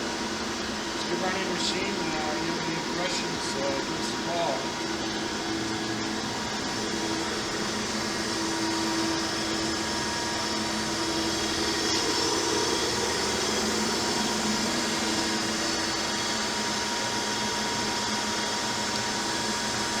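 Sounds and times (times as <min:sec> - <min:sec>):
grinding machine humming: 0:00.0 - 0:20.0.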